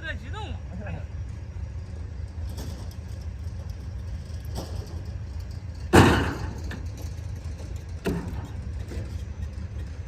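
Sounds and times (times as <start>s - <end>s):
three-wheeler engine rumbling: 0.0s - 10.0s.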